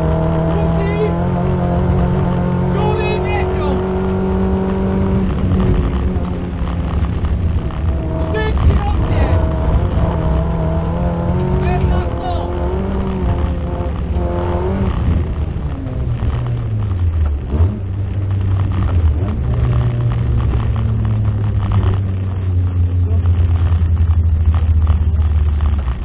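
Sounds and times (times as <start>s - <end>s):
car engine running hard: 0.0s - 26.0s.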